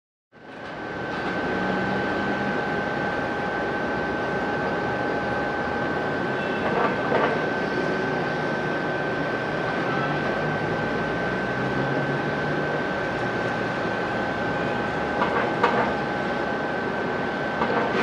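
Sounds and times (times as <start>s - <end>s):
turboprop engine drone with high whine: 0.3s - 18.0s.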